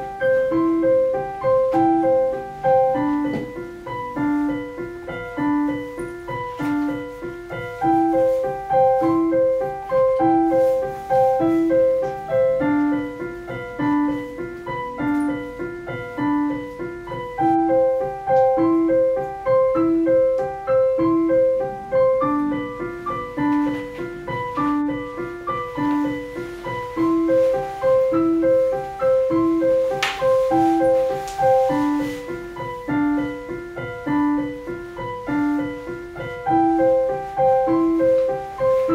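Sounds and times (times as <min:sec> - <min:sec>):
calm solo piano music: 0:00.0 - 0:38.9.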